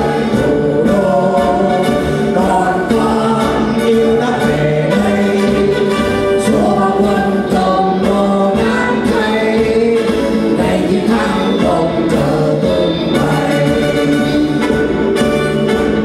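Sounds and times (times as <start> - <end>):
mixed choir singing: 0.0 - 14.9.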